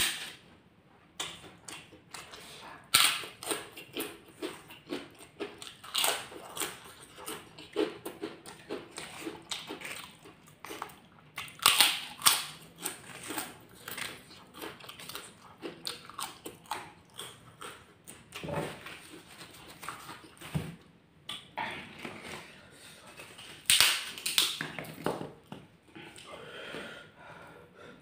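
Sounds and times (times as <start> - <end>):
chewing and crunching crackers: 1.2 - 20.5, 21.3 - 26.3.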